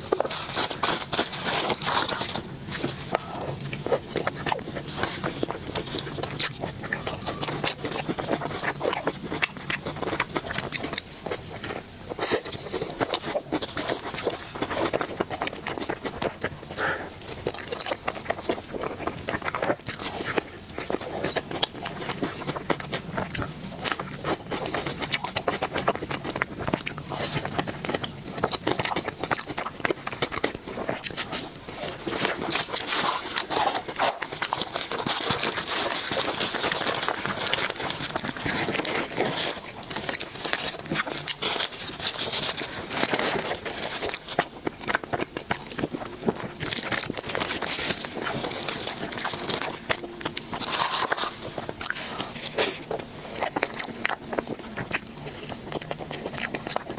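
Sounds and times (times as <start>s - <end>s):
wet chewing clicks and crackles: 0.0s - 56.9s.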